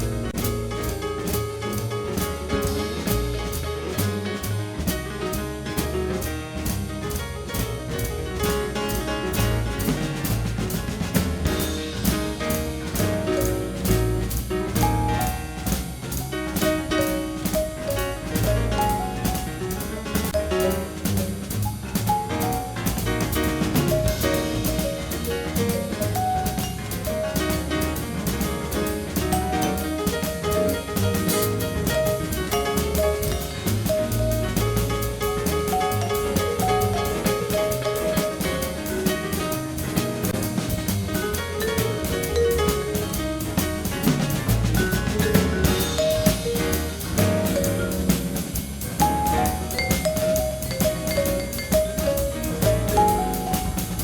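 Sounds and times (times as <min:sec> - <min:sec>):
jazz instrumental with drum kit: 0:00.0 - 0:54.0.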